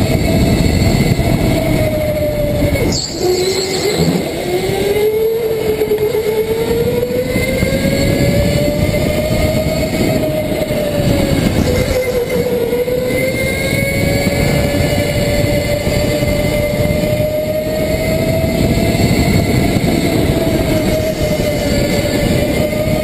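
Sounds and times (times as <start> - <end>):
go-kart engine revving: 0.0 - 23.0.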